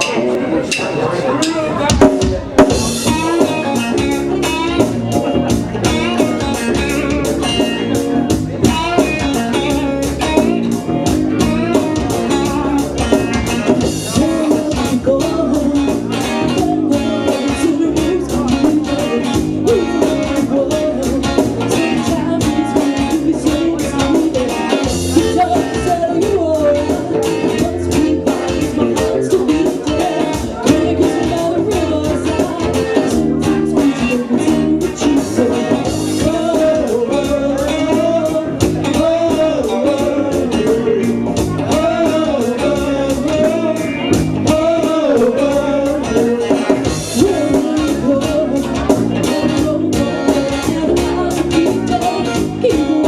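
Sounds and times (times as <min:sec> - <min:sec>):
drum kit: 0:00.0 - 0:53.0
guitar: 0:00.0 - 0:53.0
person singing: 0:00.0 - 0:53.0.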